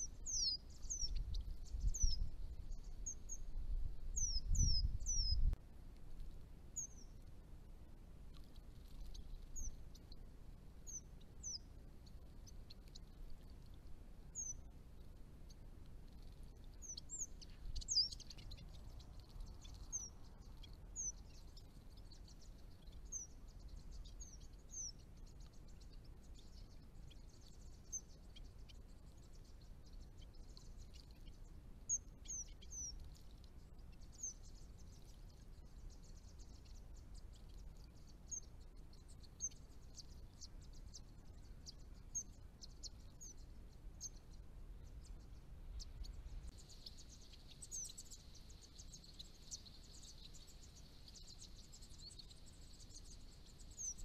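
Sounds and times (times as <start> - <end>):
faint high hiss: 0.0 - 54.0
small birds chirping: 0.0 - 54.0.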